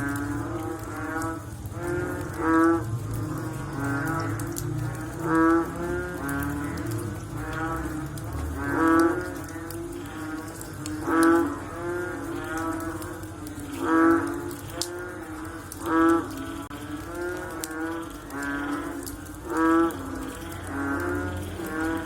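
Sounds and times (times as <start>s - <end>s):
faint frog calls: 0.0s - 22.0s
frogs croaking: 0.0s - 22.0s.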